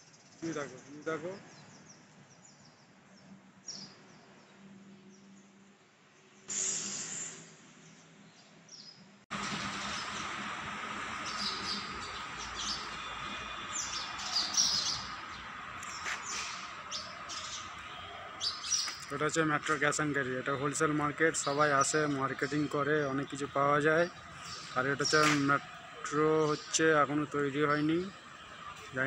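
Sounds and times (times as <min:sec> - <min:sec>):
birds chirping: 0:00.0 - 0:05.6, 0:07.8 - 0:29.0
street background noise: 0:00.0 - 0:29.0.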